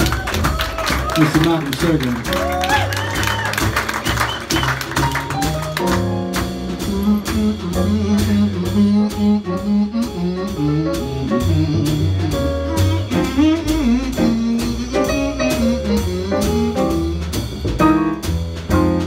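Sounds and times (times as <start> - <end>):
steady drum beat: 0.0 - 19.0
upright double bass: 0.0 - 19.0
acoustic piano: 2.3 - 19.0.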